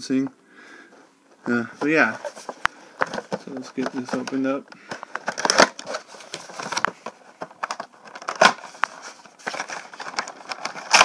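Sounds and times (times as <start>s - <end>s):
cardboard and plastic crinkling: 1.8s - 11.0s.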